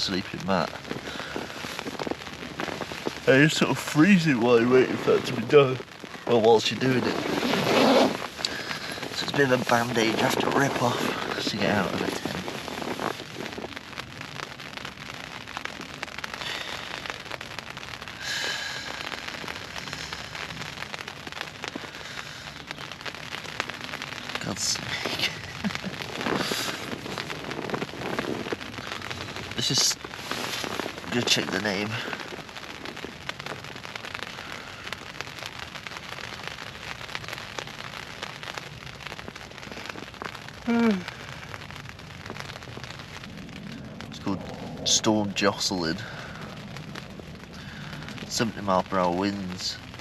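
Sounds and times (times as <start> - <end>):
rain pattering on tent fabric: 0.0 - 50.0.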